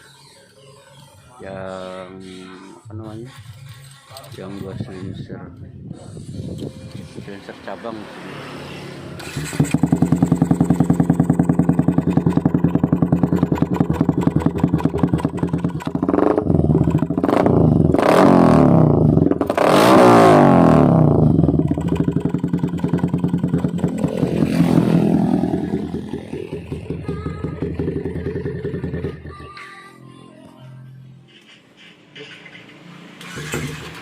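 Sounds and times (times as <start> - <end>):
motorcycle engine idling and revving: 0.0 - 29.7, 31.0 - 34.0.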